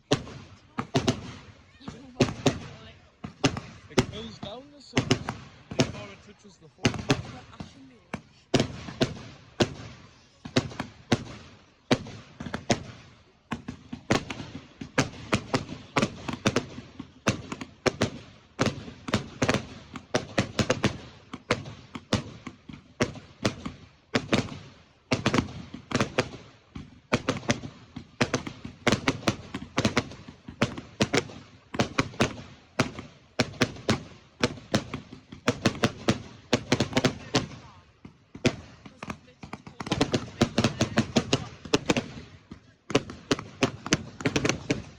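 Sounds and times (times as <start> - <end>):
fireworks bangs and cracks: 0.0 - 44.9.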